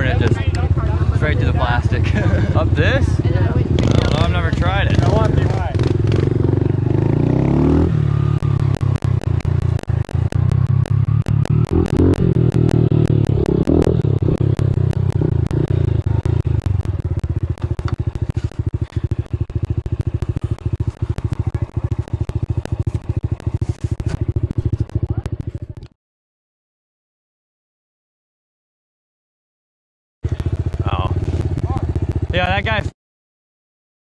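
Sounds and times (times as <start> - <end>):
small motorbike engine running: 0.0 - 25.9, 30.2 - 32.9.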